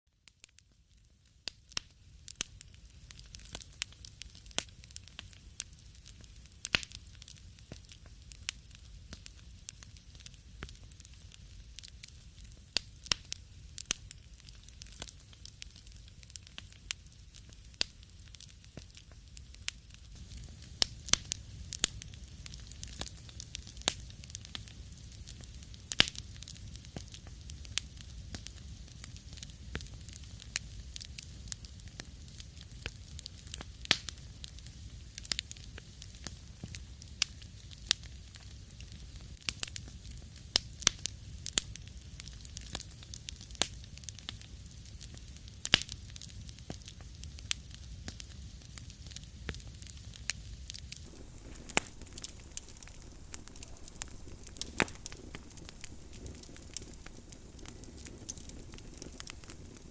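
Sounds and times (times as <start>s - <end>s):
wood fire crackling: 1.4s - 59.9s.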